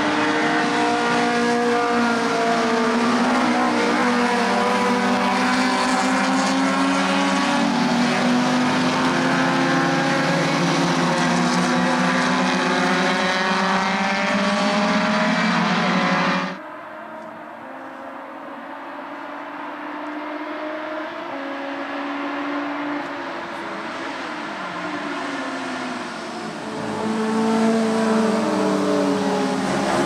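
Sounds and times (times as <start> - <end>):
racing cars passing at high revs: 0.0 - 30.0.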